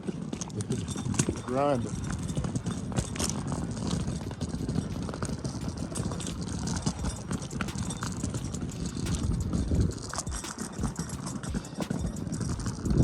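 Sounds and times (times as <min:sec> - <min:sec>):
cart wheels rumbling on rough ground: 0:00.0 - 0:13.0.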